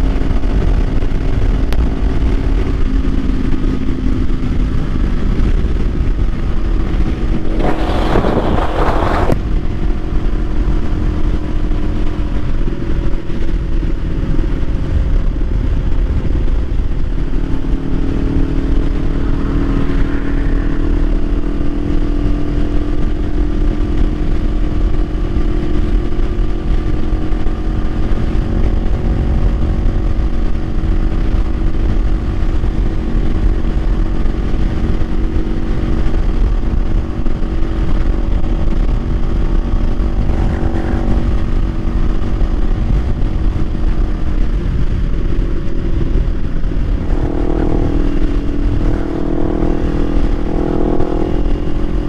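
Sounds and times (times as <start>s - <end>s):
motorcycle engine cruising: 0.0s - 52.0s
wind rumble on microphone: 0.0s - 52.0s.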